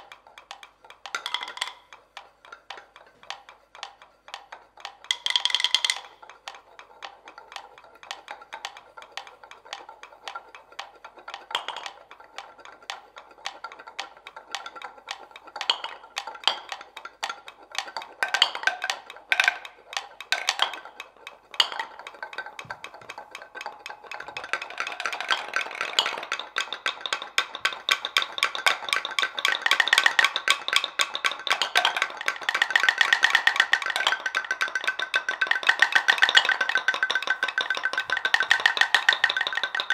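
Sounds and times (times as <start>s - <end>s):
wooden mortars clicking and knocking: 0.0s - 39.9s.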